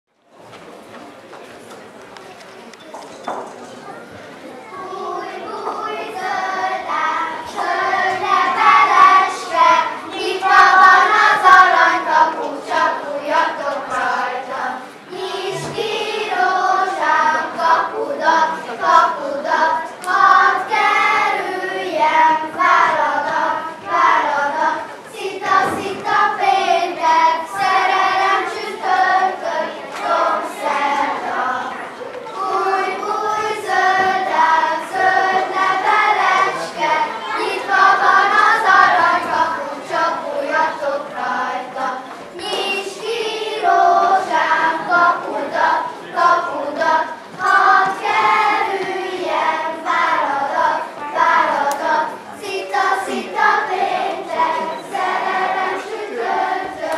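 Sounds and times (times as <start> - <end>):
children singing in chorus: 4.7 - 56.9.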